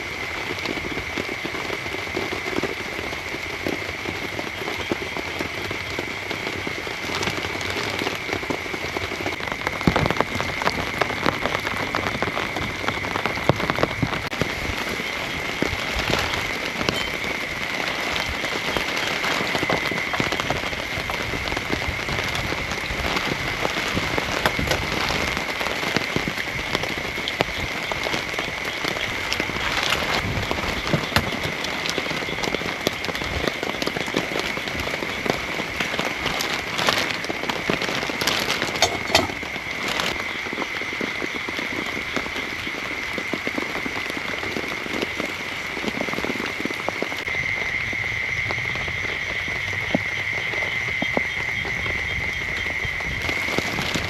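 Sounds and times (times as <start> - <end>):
heavy rain: 0.0 - 54.0
raindrops striking a surface: 0.0 - 54.0.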